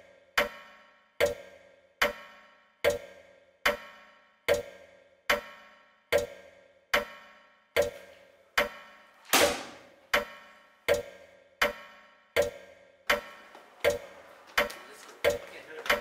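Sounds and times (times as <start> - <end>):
clock ticking: 0.4 - 9.2, 10.0 - 16.0.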